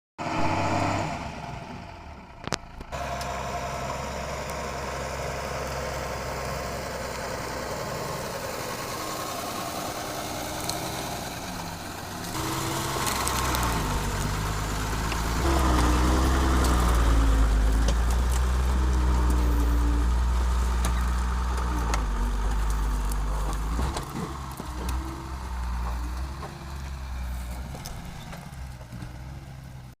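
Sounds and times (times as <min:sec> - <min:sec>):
off-road vehicle engine revving: 0:00.2 - 0:30.0.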